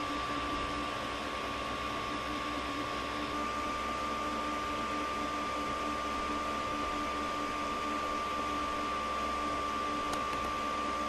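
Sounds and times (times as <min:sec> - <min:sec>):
fan whirring: 0:00.0 - 0:11.0.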